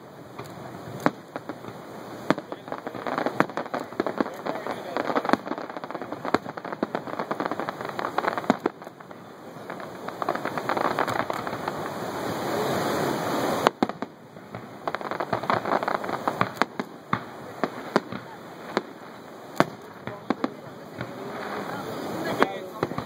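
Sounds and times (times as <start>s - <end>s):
fireworks crackling: 0.0s - 23.0s
fireworks pops and bangs: 0.0s - 23.0s.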